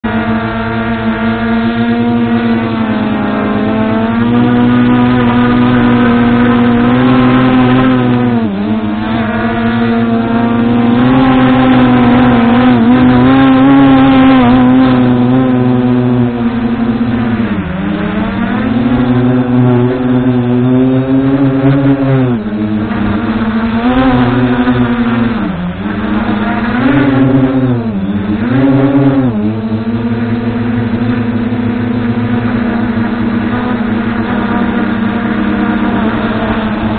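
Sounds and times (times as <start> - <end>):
quadcopter motors whining: 0.0 - 36.9.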